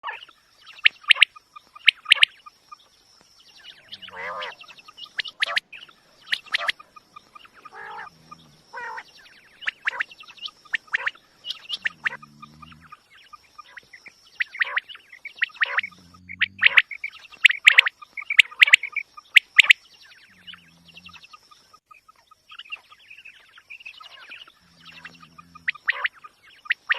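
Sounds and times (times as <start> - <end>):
quail calling: 0.0 - 2.4, 3.6 - 13.0, 13.6 - 21.4, 22.0 - 26.9.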